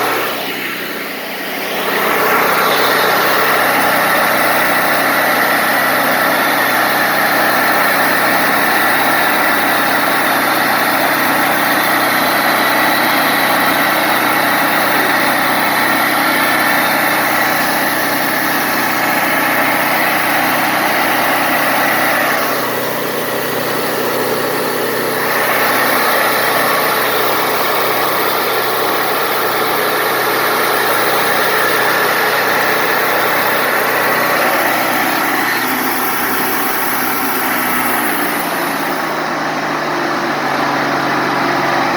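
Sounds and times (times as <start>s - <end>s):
band sawmill running: 0.0s - 41.9s.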